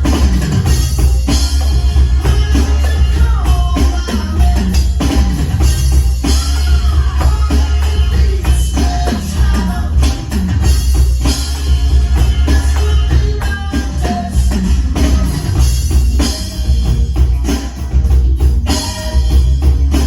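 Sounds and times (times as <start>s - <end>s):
recorded pop song: 0.0s - 16.6s
drum kit playing: 0.0s - 20.0s.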